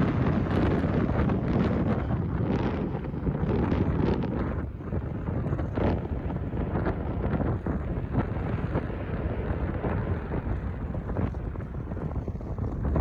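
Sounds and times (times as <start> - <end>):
gusty wind on microphone: 0.0 - 13.0.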